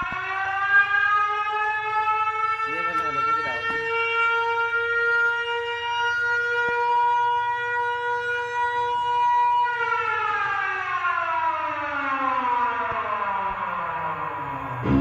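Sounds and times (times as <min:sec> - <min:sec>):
siren winding down: 0:00.0 - 0:15.0.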